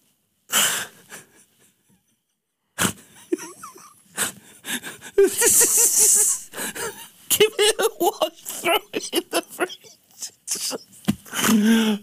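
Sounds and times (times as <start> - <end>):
man wheezing laughter: 1.1 - 12.0.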